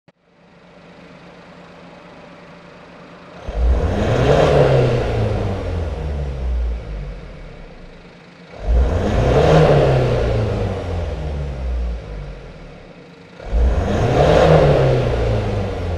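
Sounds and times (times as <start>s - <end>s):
diesel engine idling and revving: 0.2s - 15.9s.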